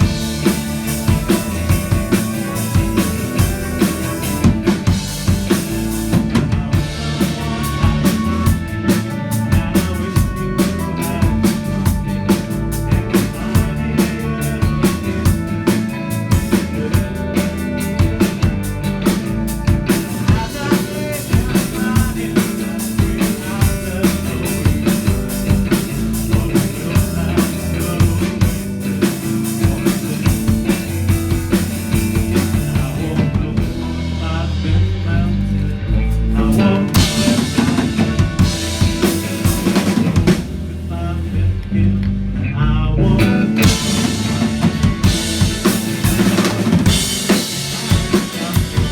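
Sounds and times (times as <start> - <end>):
drum kit beat: 0.0 - 35.0, 36.0 - 40.9, 43.2 - 48.9
live rock band playing: 0.0 - 41.3, 43.0 - 48.9.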